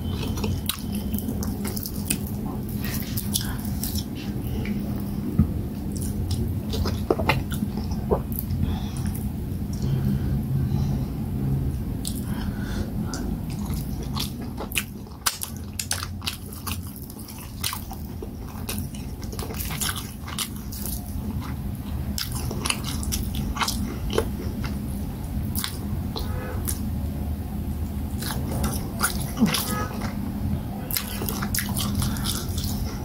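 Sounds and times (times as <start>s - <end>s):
wet chewing and smacks: 0.0s - 10.0s, 12.0s - 26.9s, 27.7s - 33.0s
low steady hum: 0.0s - 33.0s.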